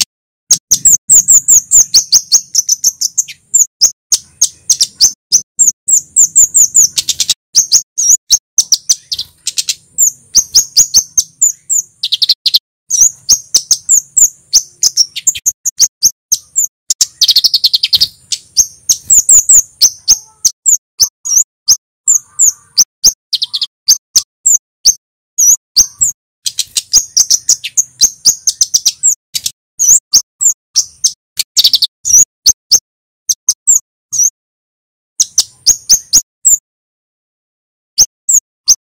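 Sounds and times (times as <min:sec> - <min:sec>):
bird high-pitched chirps: 0:00.0 - 0:34.4, 0:35.1 - 0:36.6, 0:37.9 - 0:38.9.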